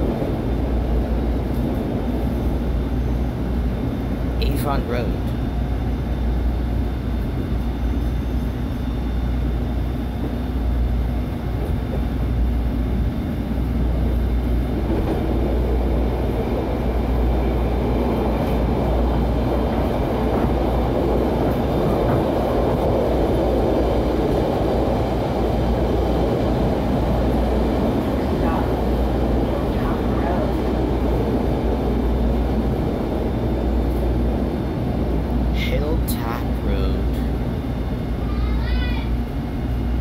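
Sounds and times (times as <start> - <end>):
low hum of trolley: 0.0 - 40.0
wheels rumbling on rail: 0.0 - 40.0.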